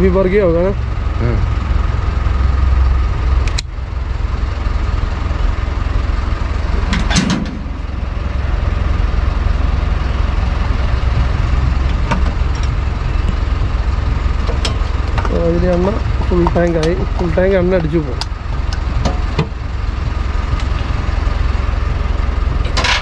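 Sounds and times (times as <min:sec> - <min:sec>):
truck engine and pump hum: 0:00.0 - 0:23.0.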